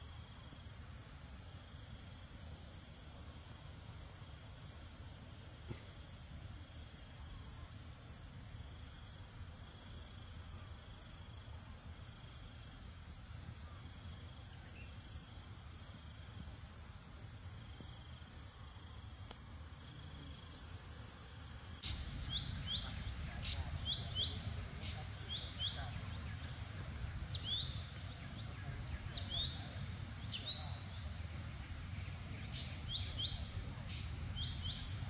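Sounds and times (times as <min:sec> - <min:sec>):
insects droning: 0:00.0 - 0:35.0
short insect chirps: 0:04.9 - 0:35.0.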